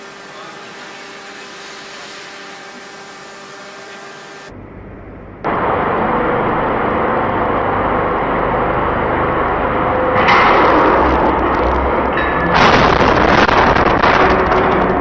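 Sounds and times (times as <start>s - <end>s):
industrial machinery hiss and rumble: 0.0s - 15.0s.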